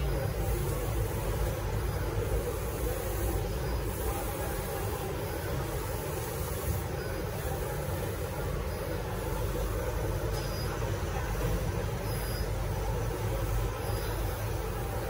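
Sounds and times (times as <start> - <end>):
printer machine hum: 0.0 - 15.0.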